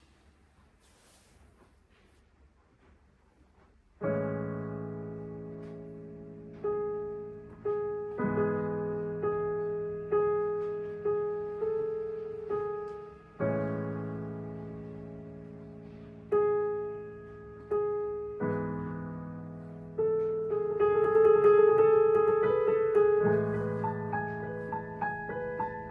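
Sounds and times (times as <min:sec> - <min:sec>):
solo piano chords: 0:04.0 - 0:25.9.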